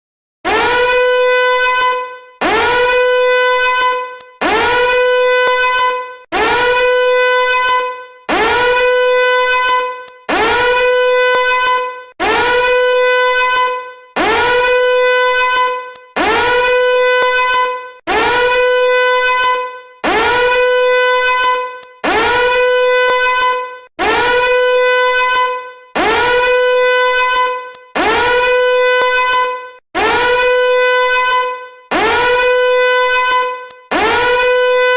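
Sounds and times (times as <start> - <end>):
buzzy horn-like alarm blast: 0.5 - 34.9.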